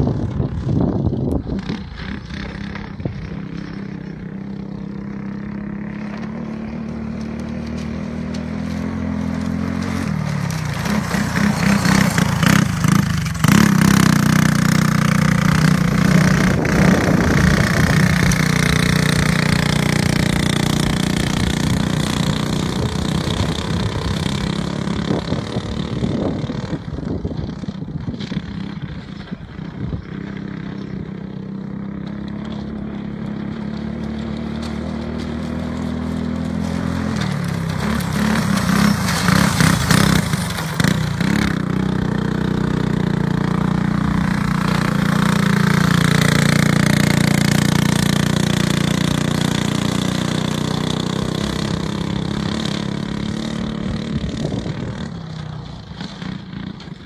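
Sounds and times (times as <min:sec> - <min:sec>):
go-kart engine passing: 0:00.0 - 0:57.0.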